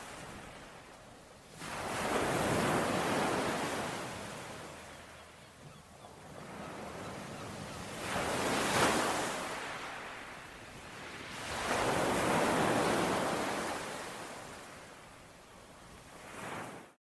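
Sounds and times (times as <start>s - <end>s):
ocean waves washing onto shore: 0.0s - 5.4s, 6.2s - 15.3s.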